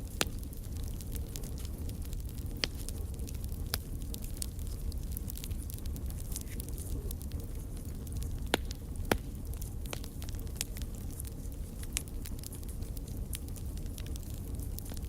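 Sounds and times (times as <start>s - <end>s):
campfire crackling: 0.0s - 15.0s
sharp fire pops: 0.0s - 15.0s.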